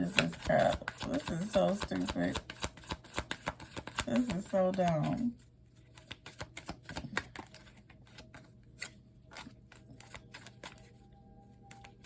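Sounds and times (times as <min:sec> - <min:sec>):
cards clicking and tapping: 0:00.0 - 0:05.2, 0:05.9 - 0:10.9
low steady hum: 0:00.0 - 0:12.0.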